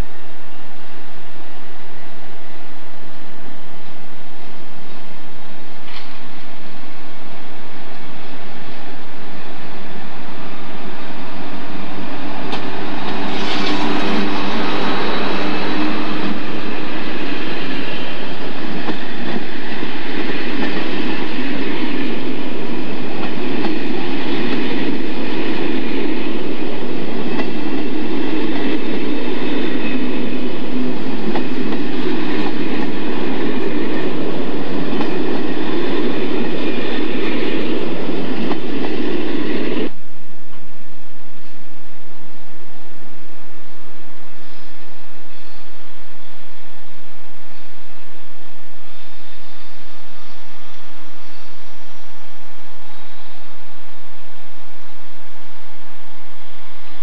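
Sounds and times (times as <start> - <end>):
passenger train rumbling past: 0.0 - 57.0.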